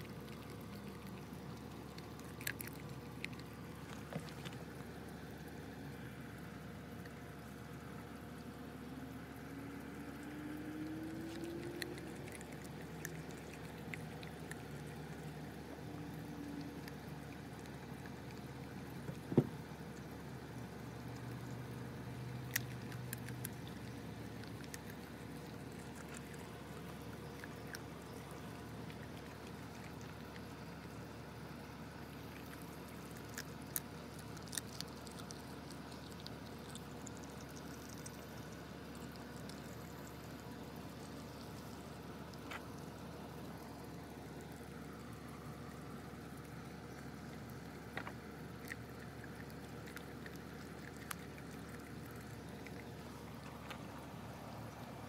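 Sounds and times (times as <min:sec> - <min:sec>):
puppy gnawing raw chicken: 0:00.0 - 0:55.0.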